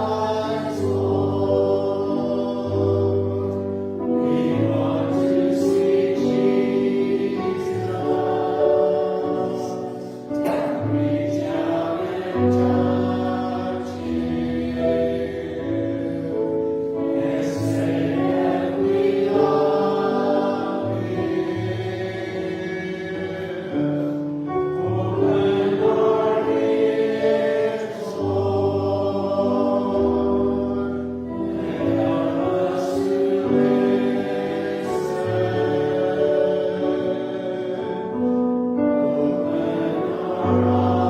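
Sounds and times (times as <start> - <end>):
choir singing sacred music: 0.0 - 41.0.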